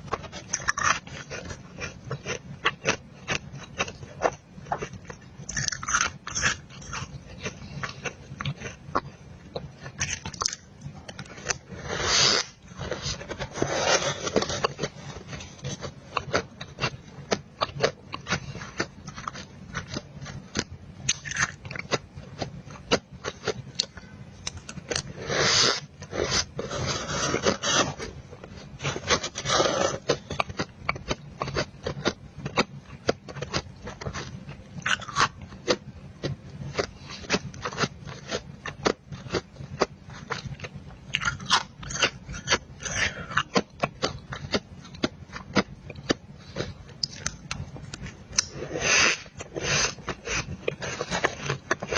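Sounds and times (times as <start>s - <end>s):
crunching and chewing frost: 0.0s - 51.9s.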